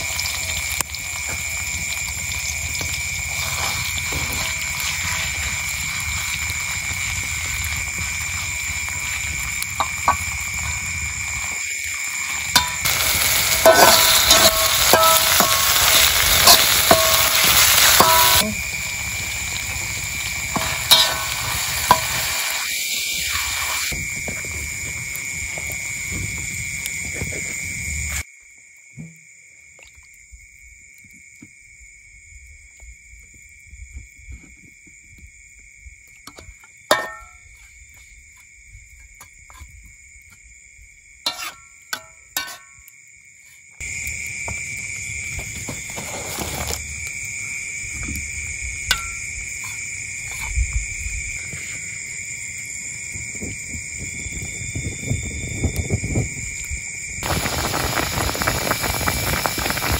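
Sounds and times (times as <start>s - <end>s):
night insects chorus: 0.0s - 59.9s.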